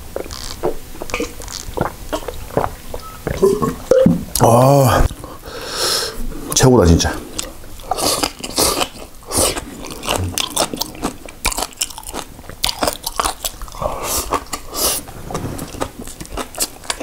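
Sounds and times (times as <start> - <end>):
person chewing crunchy food: 0.0 - 5.4, 7.3 - 17.0.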